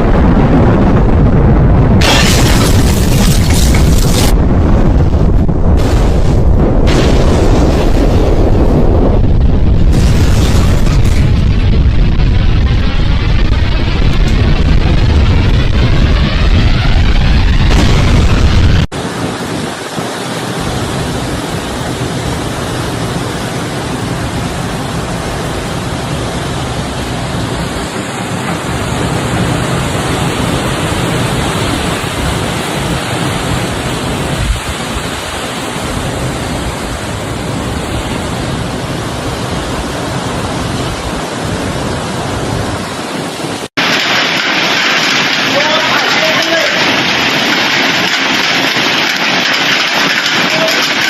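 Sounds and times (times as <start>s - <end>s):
driving rain: 0.0s - 51.0s
wind: 0.0s - 51.0s.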